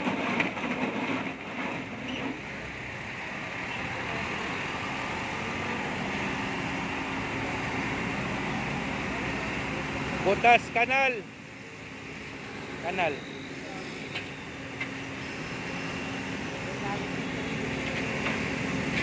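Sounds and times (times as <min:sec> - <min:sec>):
machine engine drone: 0:00.0 - 0:19.0.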